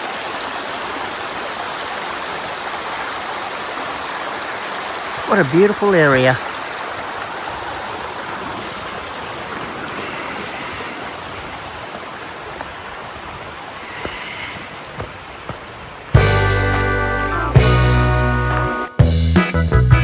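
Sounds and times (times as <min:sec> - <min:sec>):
rushing creek water: 0:00.0 - 0:18.8.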